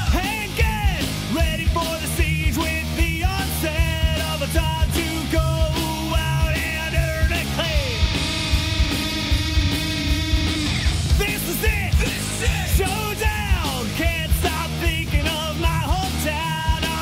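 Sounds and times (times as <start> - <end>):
person singing: 0.0 - 9.9, 11.1 - 17.0
drum beat: 0.0 - 17.0.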